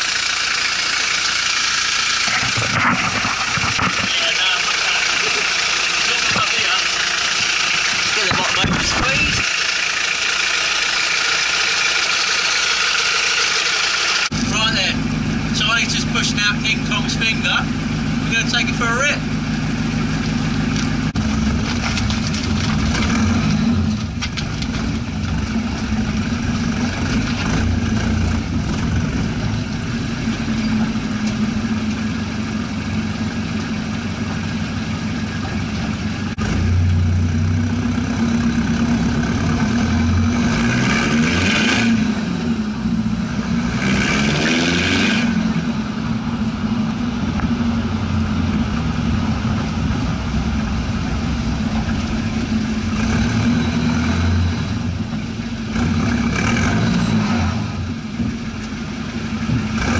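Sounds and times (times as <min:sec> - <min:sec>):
diesel truck engine revving: 0:00.0 - 0:59.9.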